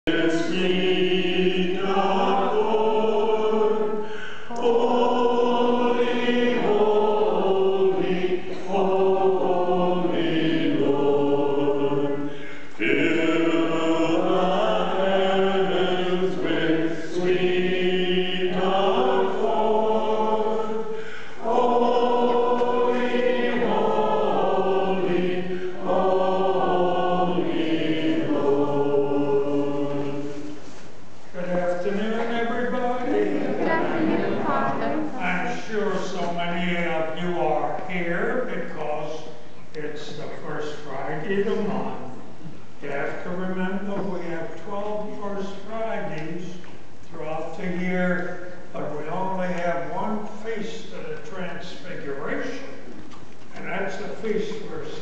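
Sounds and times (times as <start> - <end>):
church choir singing a hymn: 0.1 - 30.7, 31.3 - 46.5, 47.1 - 52.8.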